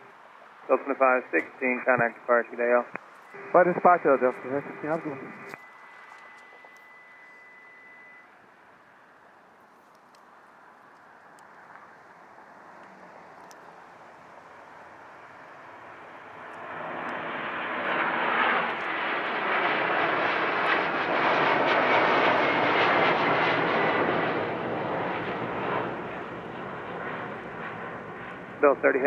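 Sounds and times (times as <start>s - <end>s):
faint high whine: 0.0s - 29.0s
jet engines roaring at takeoff: 0.0s - 29.0s.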